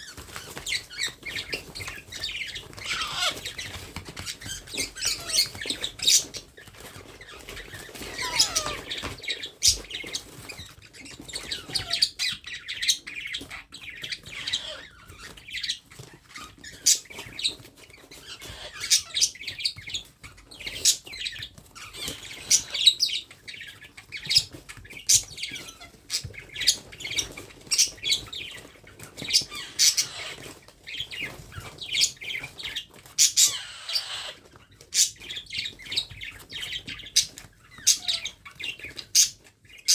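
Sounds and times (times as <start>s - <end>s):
baby parrot chirping and squawking: 0.0s - 39.9s.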